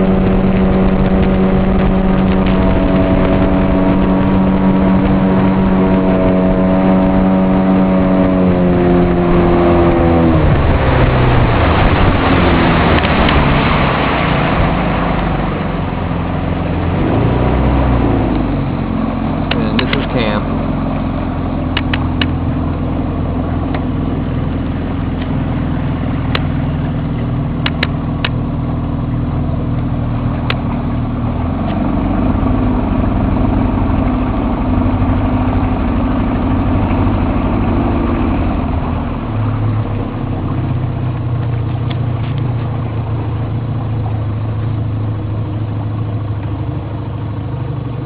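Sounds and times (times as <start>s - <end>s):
boat motor running: 0.0s - 48.0s.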